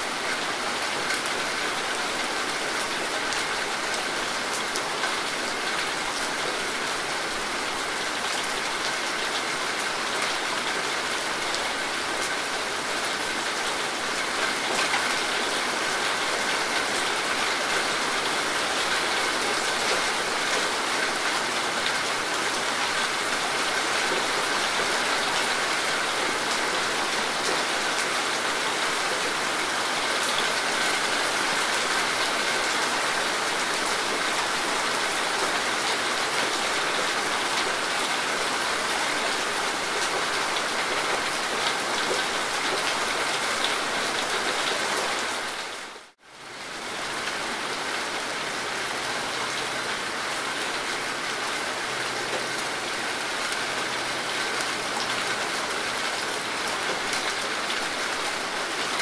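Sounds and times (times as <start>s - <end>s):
rain on vegetation: 0.0s - 59.0s.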